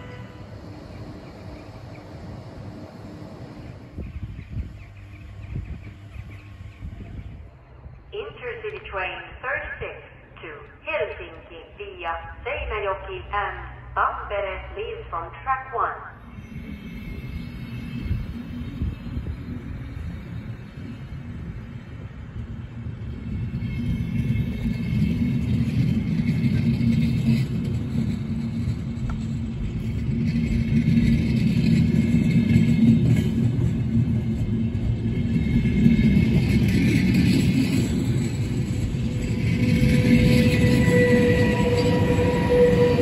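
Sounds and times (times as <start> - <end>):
rail noise: 0.0 - 43.0
train rumbling on tracks: 0.0 - 43.0.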